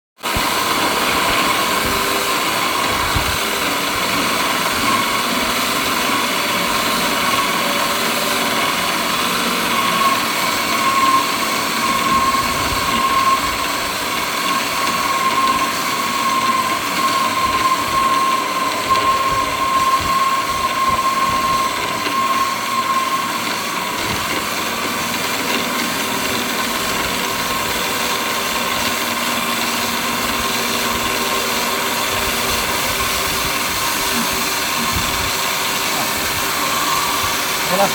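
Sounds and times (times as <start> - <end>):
milling machine running: 0.2 - 37.9.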